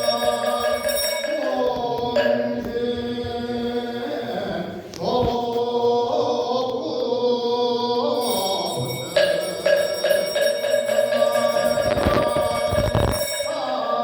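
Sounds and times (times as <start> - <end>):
ritual chanting voices: 0.0 - 14.0.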